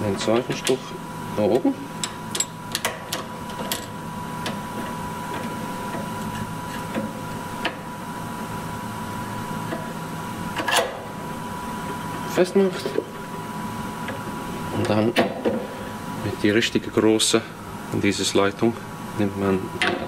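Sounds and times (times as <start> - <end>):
machine hum with high whine: 0.0 - 20.0.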